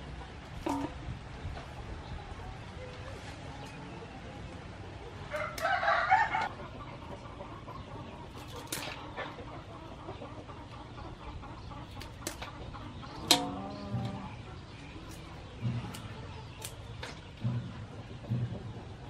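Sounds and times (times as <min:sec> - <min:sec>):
chicken clucking: 0:00.0 - 0:19.0.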